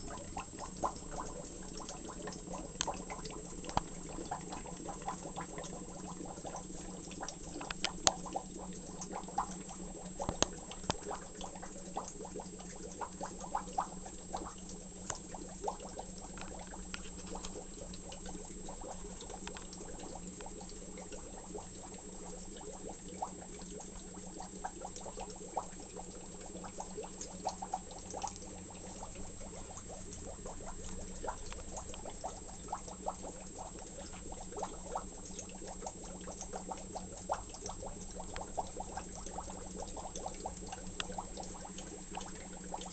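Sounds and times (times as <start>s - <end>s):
aquarium water bubbling: 0.0s - 42.9s.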